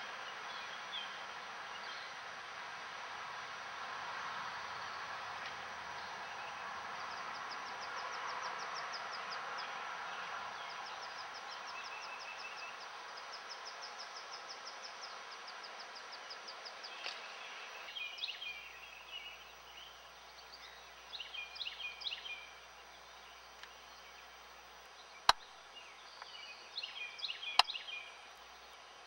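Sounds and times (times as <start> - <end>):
river water flowing: 0.0 - 29.0
songbirds chirping: 0.0 - 29.0.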